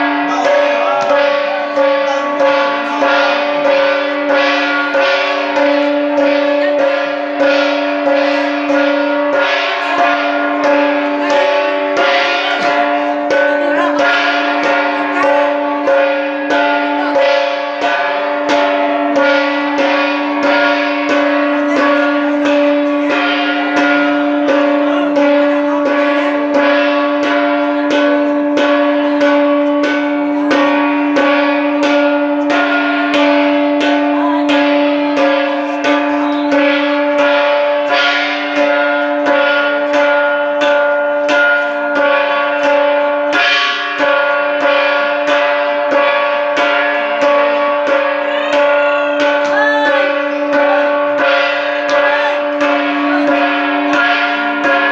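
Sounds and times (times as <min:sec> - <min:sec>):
hand-held gong beaten rapidly: 0:00.0 - 0:54.9.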